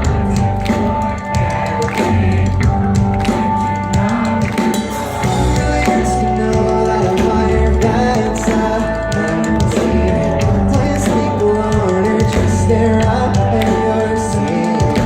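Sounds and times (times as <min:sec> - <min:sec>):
live pop-punk band: 0:00.0 - 0:15.0
steady drum beat: 0:00.0 - 0:15.0.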